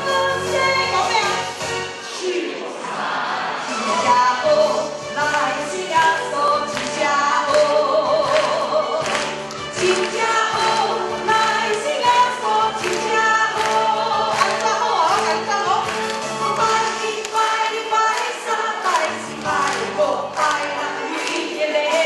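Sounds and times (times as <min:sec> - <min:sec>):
woman singing: 0:00.0 - 0:02.6, 0:03.9 - 0:15.9, 0:16.6 - 0:22.0
music with steady beat: 0:04.3 - 0:22.0.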